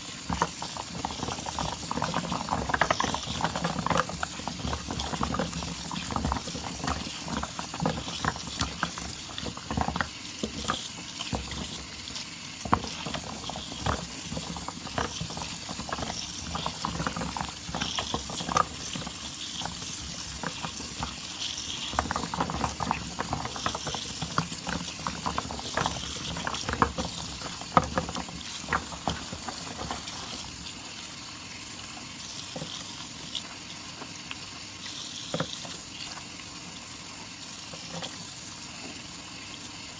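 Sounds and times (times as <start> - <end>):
foam bubbles popping: 0.0 - 39.1
soap lather squelching by hand: 0.0 - 39.8.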